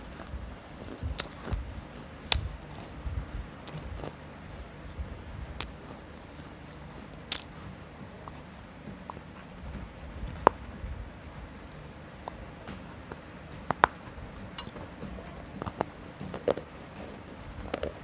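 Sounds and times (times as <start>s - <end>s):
crunchy bites: 0.0s - 10.8s, 11.4s - 18.0s
soft chewing: 0.0s - 18.0s.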